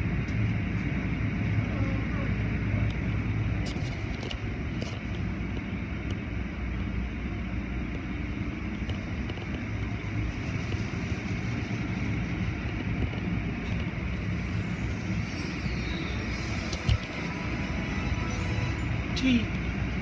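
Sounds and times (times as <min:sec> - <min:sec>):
low rumble of wash machinery: 0:00.0 - 0:20.0.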